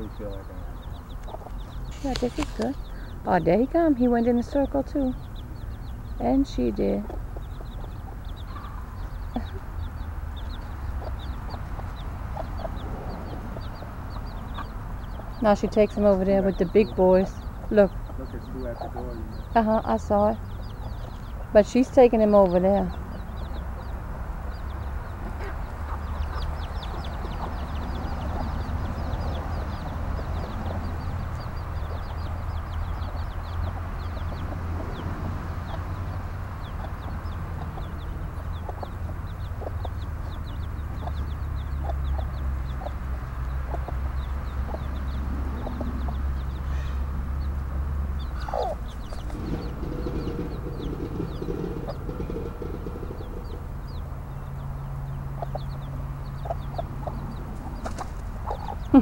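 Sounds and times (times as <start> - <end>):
chicks peeping: 0.0 - 59.0
hen clucking: 0.0 - 59.0
low rumble: 0.0 - 59.0.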